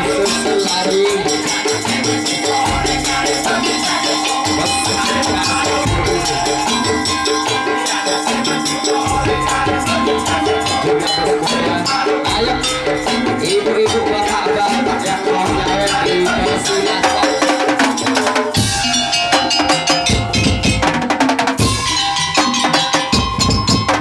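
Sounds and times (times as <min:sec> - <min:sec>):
drums and percussion rhythm: 0:00.0 - 0:24.0
sustained pitched melody: 0:00.0 - 0:24.0.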